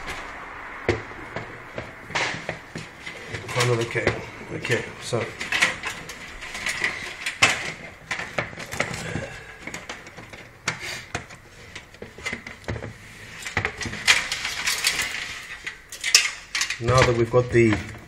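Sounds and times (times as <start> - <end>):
plastic and metal clicks and rattles: 3.0 - 18.0.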